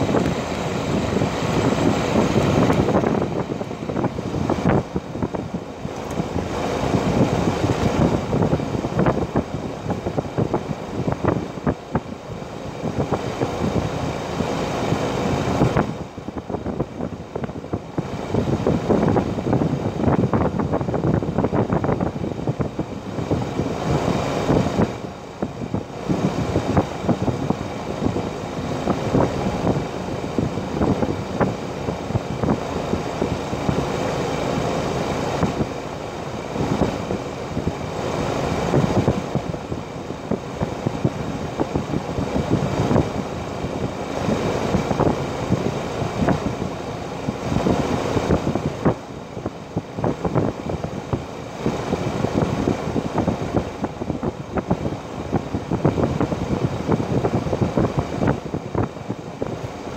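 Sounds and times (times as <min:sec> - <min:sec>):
gusty rushing air: 0:00.0 - 0:59.9
heat pump fan and compressor hum: 0:00.0 - 0:59.9.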